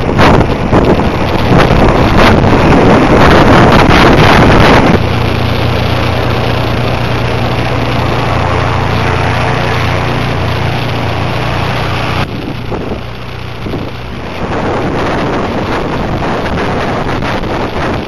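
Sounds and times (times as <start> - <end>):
light aircraft engine and propeller: 0.0 - 18.0
wind buffeting on microphone: 0.0 - 18.0.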